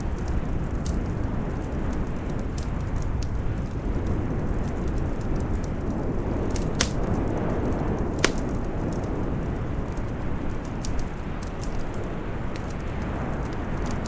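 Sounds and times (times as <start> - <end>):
howling wind: 0.0 - 14.0
wood fire crackling: 0.0 - 14.0.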